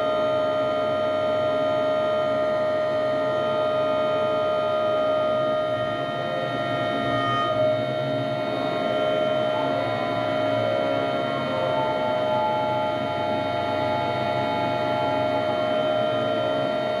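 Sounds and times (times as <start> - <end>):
crane hydraulic drive whining: 1.9 - 17.0.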